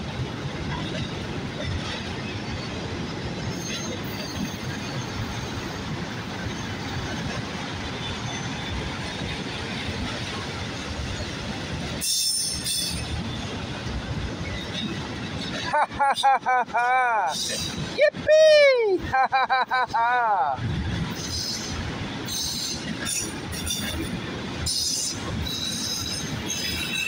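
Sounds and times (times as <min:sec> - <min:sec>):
freight train wheels rattling on rails: 0:00.0 - 0:27.0.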